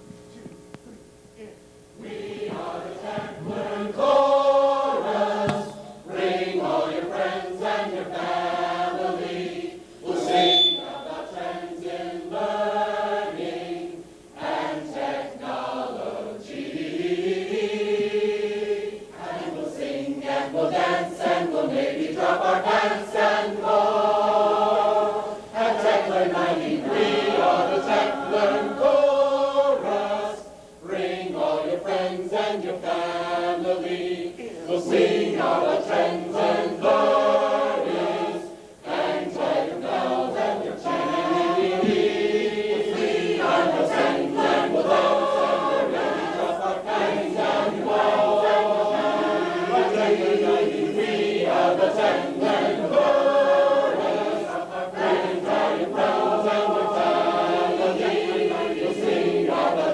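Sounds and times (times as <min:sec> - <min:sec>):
group of voices singing: 0:02.0 - 0:59.9.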